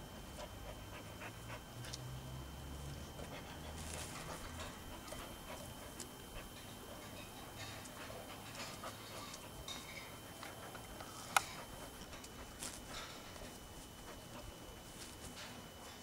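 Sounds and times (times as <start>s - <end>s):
dog panting: 0.2s - 2.2s, 2.9s - 16.0s.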